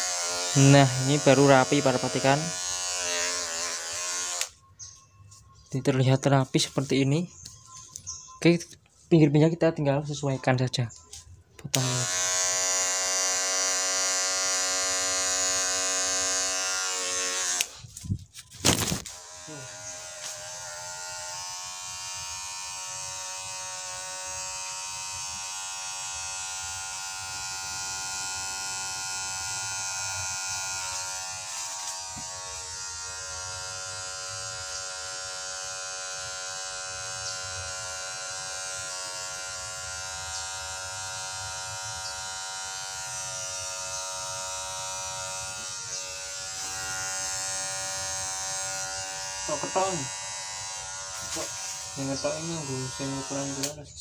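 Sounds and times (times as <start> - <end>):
electric hair clipper buzzing: 0.0 - 4.6, 11.6 - 18.0, 18.6 - 54.0.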